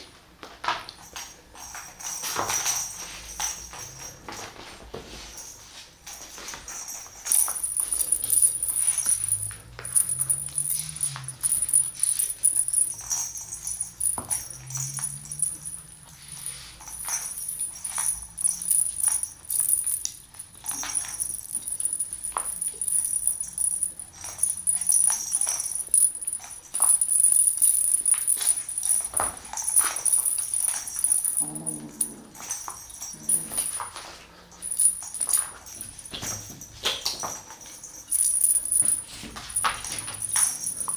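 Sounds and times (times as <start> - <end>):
small bells jingling: 1.0 - 40.9.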